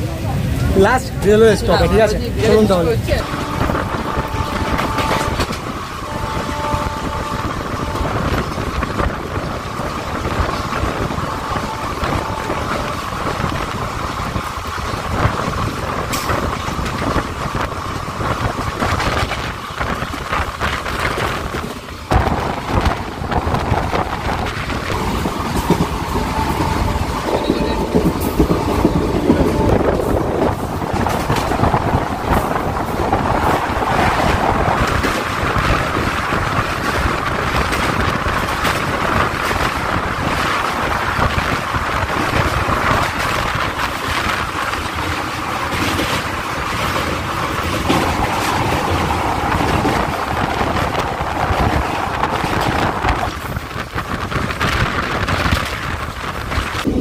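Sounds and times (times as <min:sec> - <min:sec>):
rail clicks: 0:00.0 - 0:57.0
train wheels rumbling on rails: 0:00.0 - 0:57.0
wind buffeting microphone: 0:00.0 - 0:57.0.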